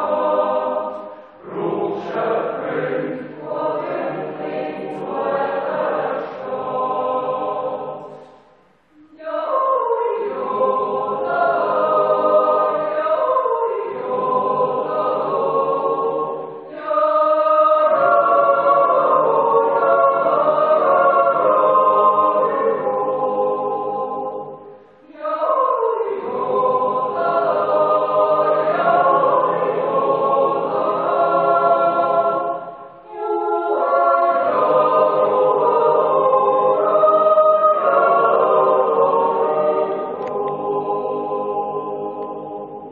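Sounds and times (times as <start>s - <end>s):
yodel choir singing a cappella: 0.0s - 42.9s.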